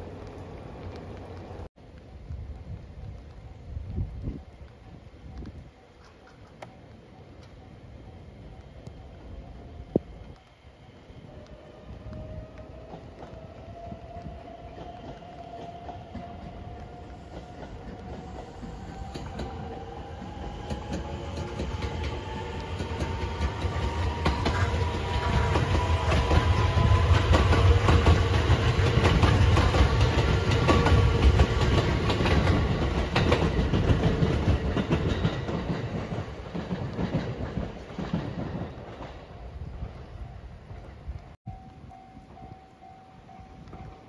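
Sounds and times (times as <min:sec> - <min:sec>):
electric train whine: 0:00.0 - 0:44.0.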